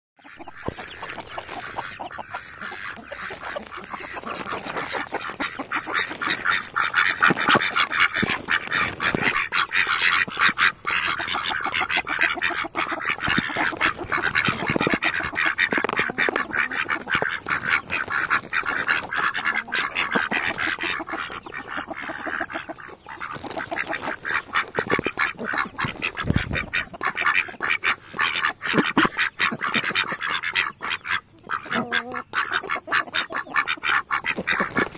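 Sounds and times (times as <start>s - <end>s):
ducks quacking: 0.2s - 34.9s.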